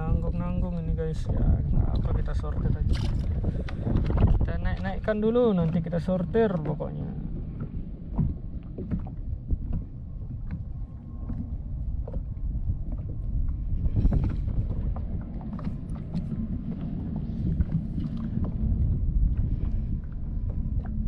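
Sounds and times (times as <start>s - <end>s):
water lapping against boat: 0.0s - 21.0s
wind rumbling on microphone: 0.0s - 21.0s.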